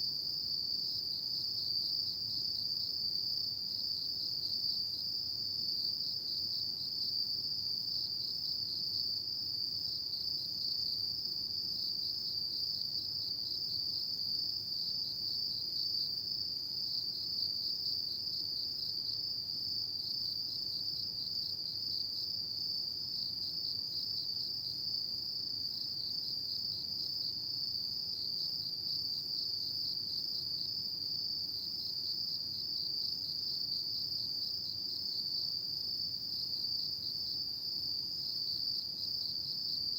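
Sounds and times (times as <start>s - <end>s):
crickets chirping in chorus: 0.0s - 39.9s.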